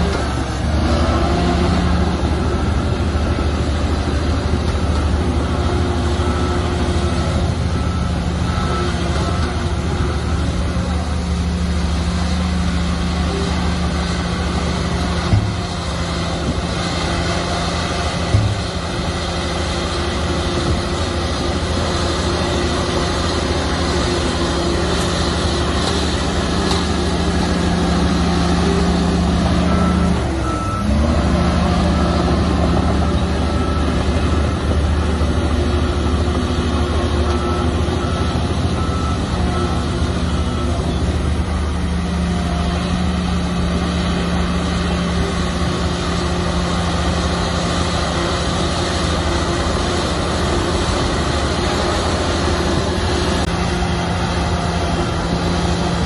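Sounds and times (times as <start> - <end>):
heavy diesel engine running: 0.0 - 56.0
reversing alarm beeping: 0.0 - 56.0.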